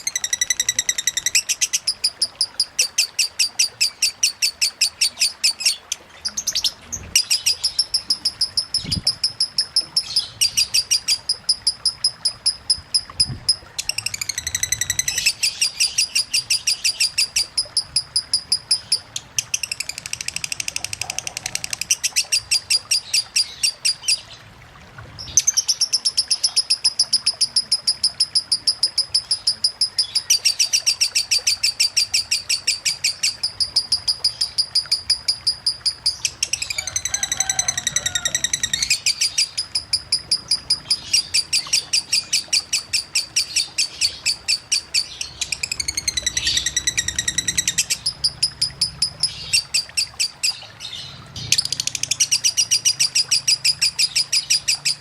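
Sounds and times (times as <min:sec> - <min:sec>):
lovebird chattering: 0:00.0 - 0:24.2, 0:25.3 - 0:50.6.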